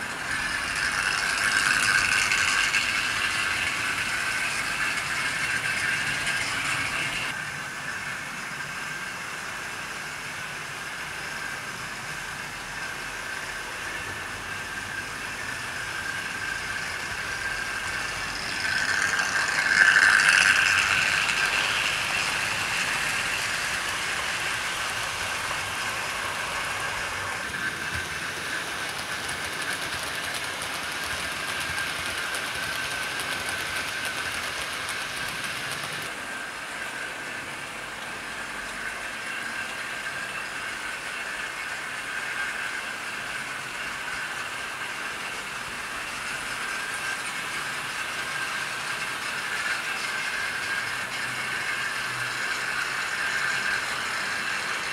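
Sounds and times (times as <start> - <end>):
model train motor whine: 0.0 - 54.9
wheels rolling on rails: 0.0 - 54.9.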